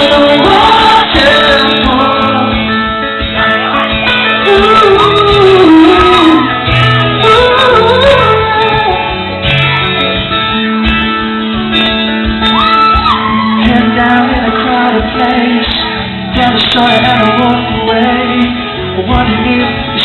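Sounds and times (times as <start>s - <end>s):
live pop-rock band playing: 0.0s - 20.0s.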